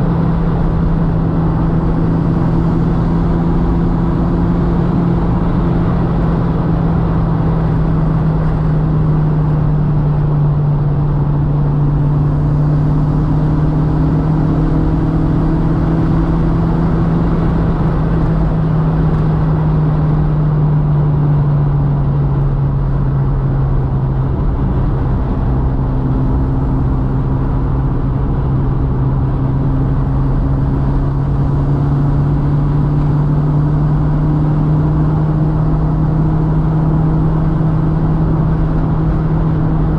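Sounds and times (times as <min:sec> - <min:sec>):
car engine running: 0:00.0 - 0:39.9
tyre and road noise: 0:00.0 - 0:39.9.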